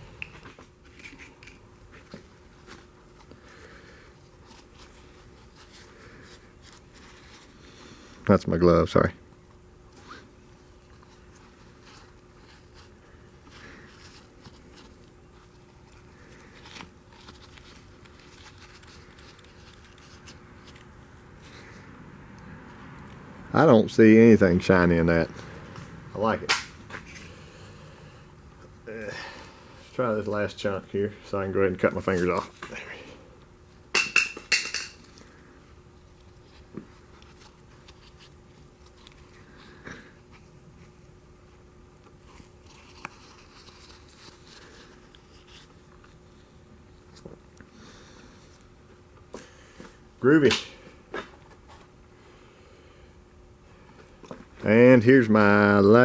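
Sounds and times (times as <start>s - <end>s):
gloved hands rustling: 0.1s - 8.2s, 9.5s - 23.2s, 25.3s - 50.0s.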